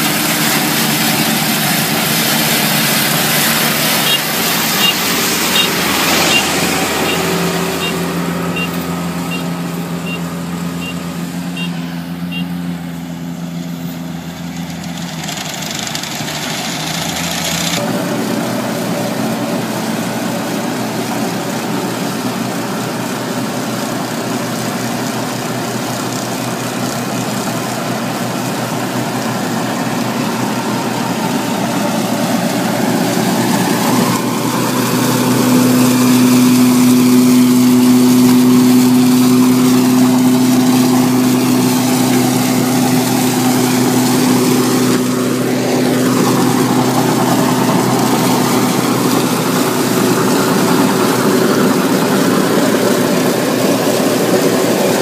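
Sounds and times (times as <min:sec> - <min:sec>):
farm machinery engines running: 0:00.0 - 0:55.0
tractor engine under load: 0:00.0 - 0:55.0.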